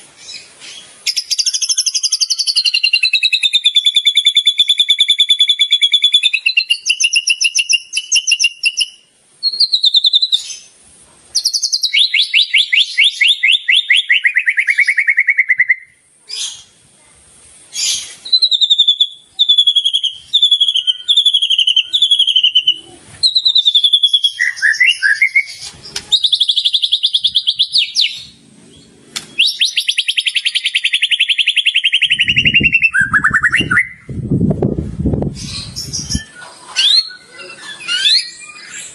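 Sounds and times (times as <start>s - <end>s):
songbird singing trills and whistles: 0.2s - 10.7s, 11.3s - 16.7s, 17.7s - 34.2s, 35.3s - 38.9s.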